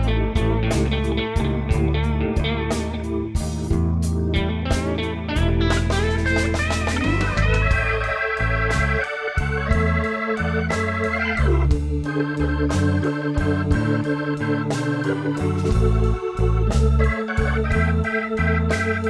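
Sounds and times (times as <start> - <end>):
bass line: 0.0 - 19.0
organ-like chords: 0.0 - 19.0
steady beat: 0.0 - 19.0.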